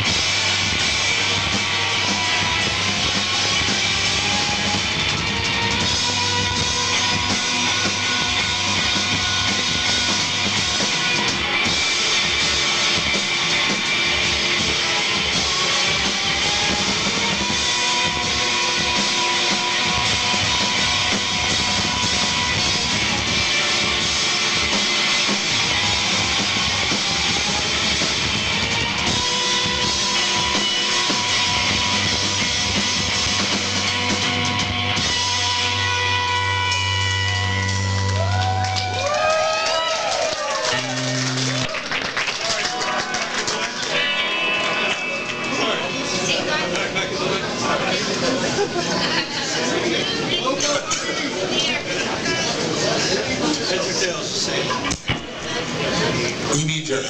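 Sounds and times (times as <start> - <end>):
drum kit: 0.0 - 49.8
bass guitar: 0.0 - 50.4
electric guitars: 0.0 - 56.5.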